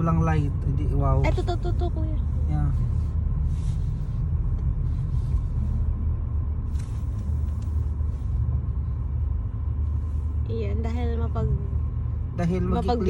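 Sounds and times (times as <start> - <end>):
low road and engine rumble: 0.0 - 13.0.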